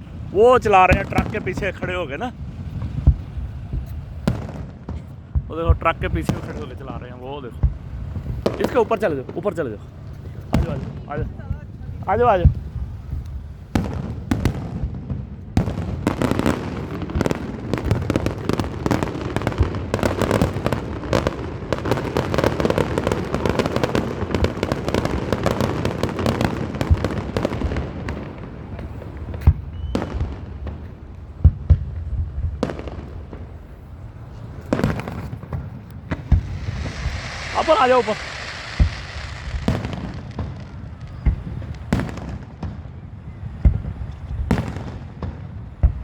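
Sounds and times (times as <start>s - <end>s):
fireworks crackling and popping: 0.0s - 46.0s
fireworks loud bangs: 0.0s - 46.0s.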